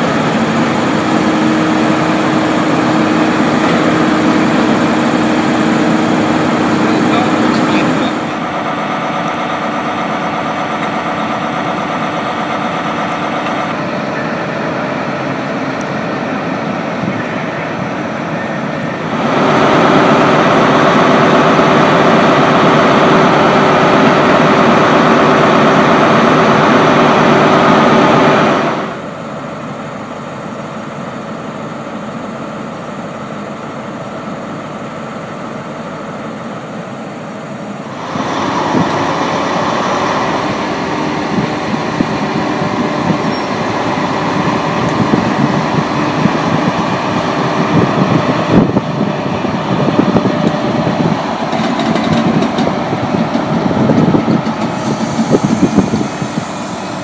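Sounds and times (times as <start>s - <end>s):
diesel engine idling hum: 0.0s - 57.0s.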